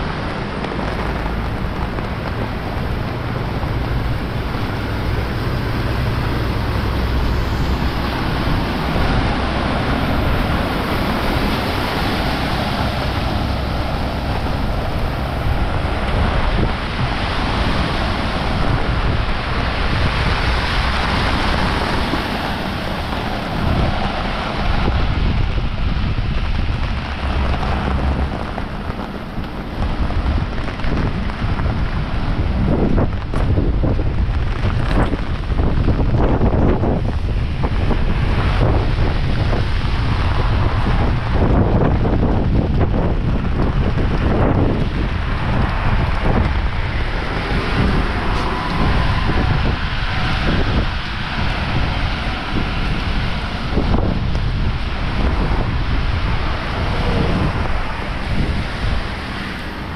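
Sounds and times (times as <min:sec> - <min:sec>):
heavy rain pouring: 0:00.0 - 0:59.9
wind buffeting microphone: 0:00.0 - 0:59.9.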